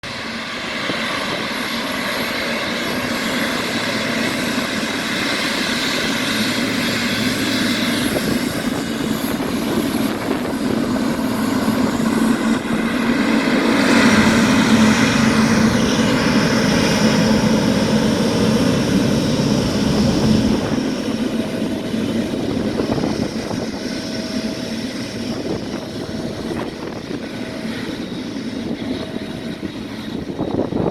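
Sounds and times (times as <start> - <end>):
jet engines whining and rumbling: 0.0 - 30.9.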